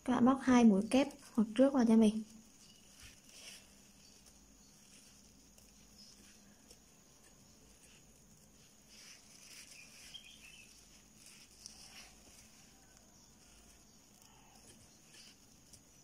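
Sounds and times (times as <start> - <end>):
crochet hook working yarn: 0.0 - 16.0.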